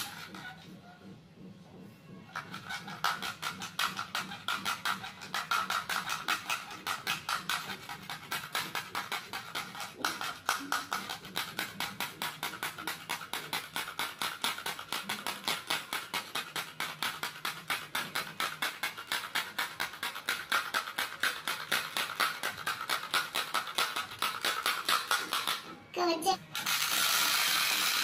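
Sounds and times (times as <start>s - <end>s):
clockwork toy whirring and clicking: 0.0s - 0.8s, 2.3s - 28.0s.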